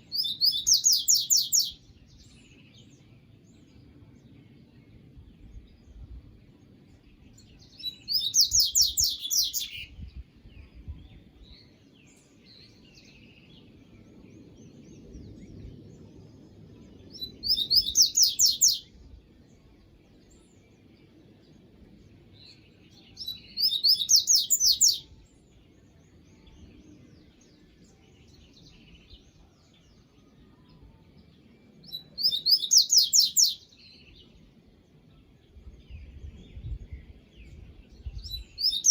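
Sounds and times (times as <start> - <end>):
faint low background noise: 0.0 - 38.9
songbird singing: 0.0 - 38.9.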